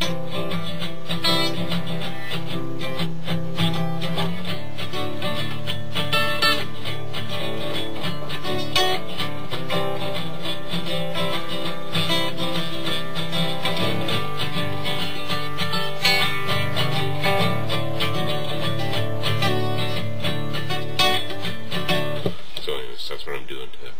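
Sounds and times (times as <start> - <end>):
acoustic guitar strumming chords: 0.0 - 22.5.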